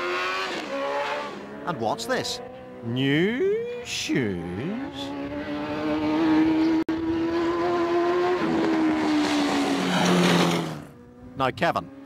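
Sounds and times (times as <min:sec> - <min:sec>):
motorcycle engine at high revs: 0:00.0 - 0:03.9, 0:04.5 - 0:12.0.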